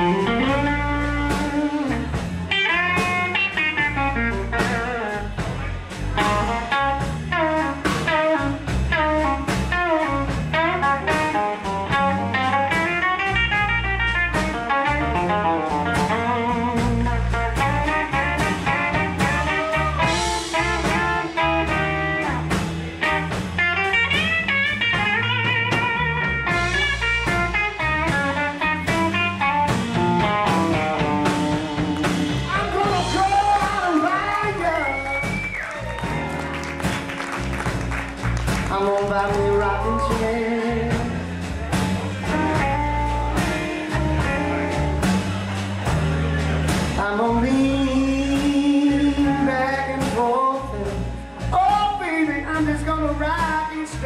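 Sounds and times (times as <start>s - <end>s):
electric guitar solo: 0.0s - 41.0s, 42.2s - 46.5s
band with drums: 0.0s - 54.0s.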